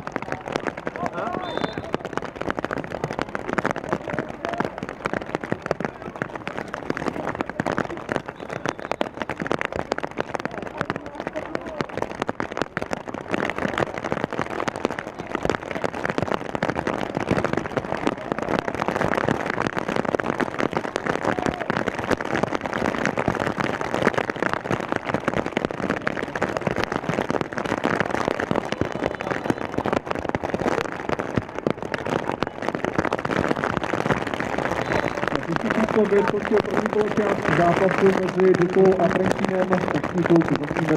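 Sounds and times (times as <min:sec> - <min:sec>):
rain drops crackling on surface: 0:00.0 - 0:40.9.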